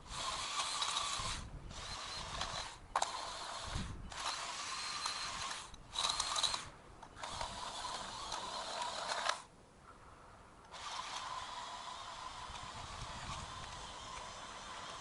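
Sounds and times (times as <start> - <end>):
edger cutting into soil: 0.0 - 9.5, 10.7 - 15.0
motor whine: 0.0 - 9.5, 10.7 - 15.0.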